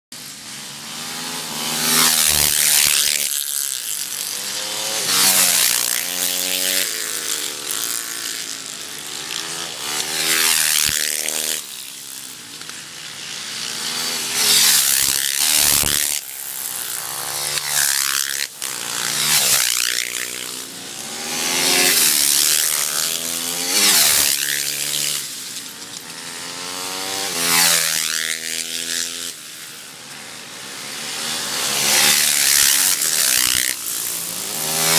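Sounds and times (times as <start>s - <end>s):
dirt bike engines revving: 0.2s - 34.9s.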